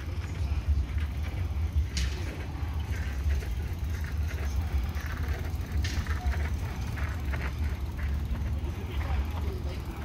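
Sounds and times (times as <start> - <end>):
faint distant voices: 0.0 - 10.0
low street rumble: 0.0 - 10.0.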